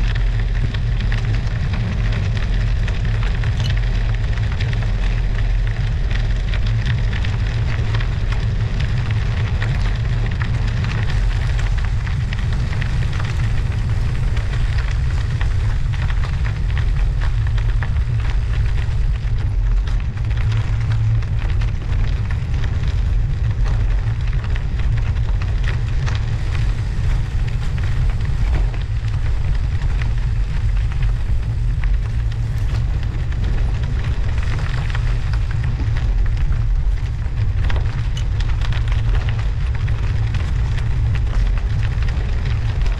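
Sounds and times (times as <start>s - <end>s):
studded tyres crackling over snow: 0.0s - 42.9s
wind rumble on microphone: 0.0s - 42.9s.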